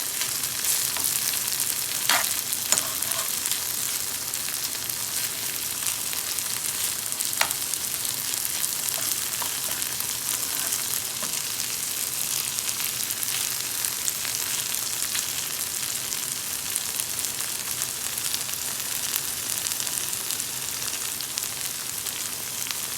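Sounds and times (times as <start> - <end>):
meat and chickpeas sizzling in a pan: 0.0 - 22.9.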